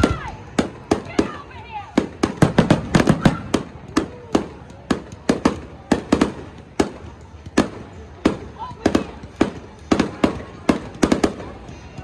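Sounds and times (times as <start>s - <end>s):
fireworks bangs: 0.0s - 11.7s.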